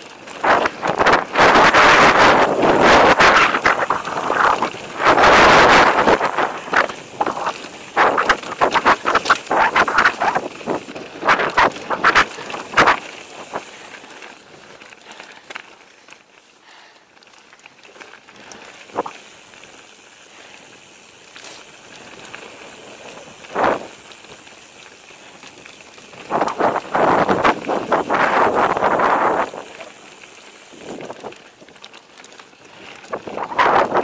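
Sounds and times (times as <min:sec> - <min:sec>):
mountain bike rattling over trail: 0:00.0 - 0:34.0.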